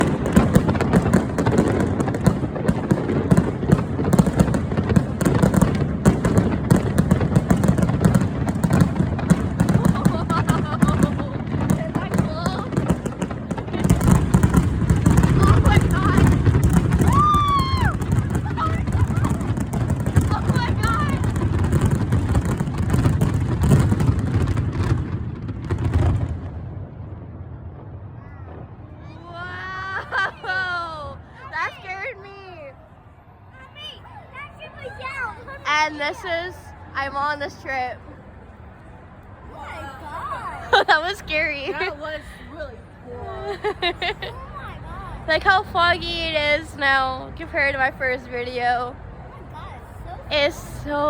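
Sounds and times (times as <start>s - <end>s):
fireworks bangs and crackling: 0.0s - 33.0s, 40.6s - 42.4s, 43.5s - 51.0s.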